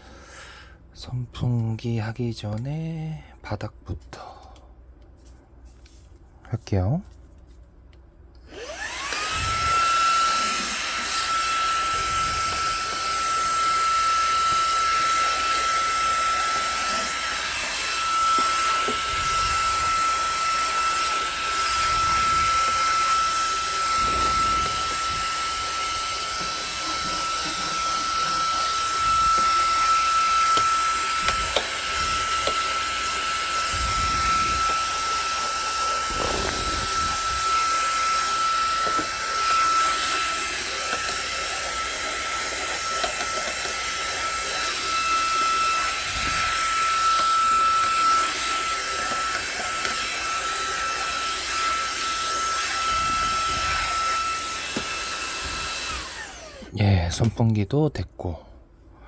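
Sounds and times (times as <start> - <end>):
handheld vacuum cleaner whine: 8.4 - 57.2.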